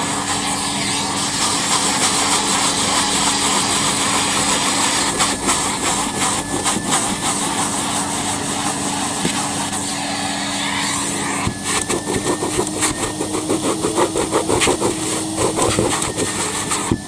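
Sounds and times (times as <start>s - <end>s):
vacuum cleaner running: 0.0s - 17.0s
nozzle scuffing on rug: 1.4s - 17.0s.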